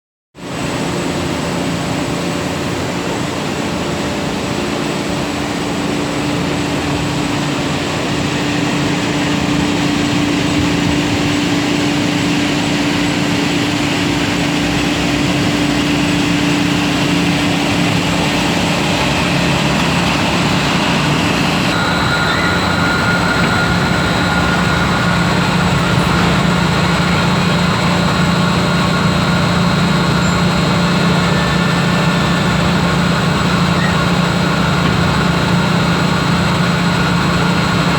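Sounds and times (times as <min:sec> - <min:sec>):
furnace machinery hiss and hum: 0:00.4 - 0:37.9.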